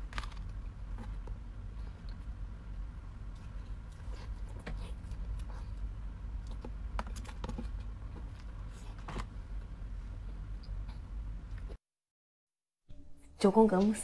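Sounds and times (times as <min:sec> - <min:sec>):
low steady hum: 0:00.0 - 0:11.8.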